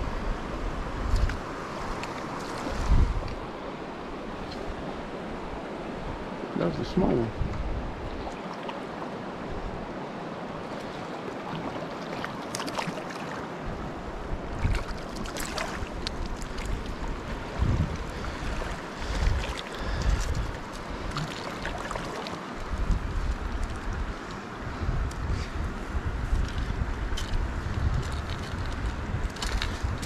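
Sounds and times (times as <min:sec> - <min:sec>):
wind rumble on microphone: 0:00.0 - 0:08.5, 0:09.2 - 0:11.8, 0:13.6 - 0:30.0
river rushing over stones: 0:00.0 - 0:24.7.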